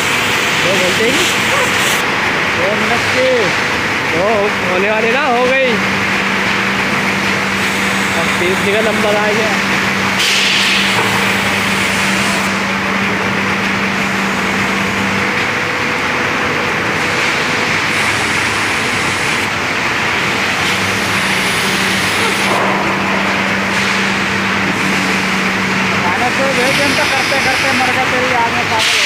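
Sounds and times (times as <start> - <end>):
factory machinery hissing: 0.0 - 29.0
low machine hum: 0.0 - 29.0.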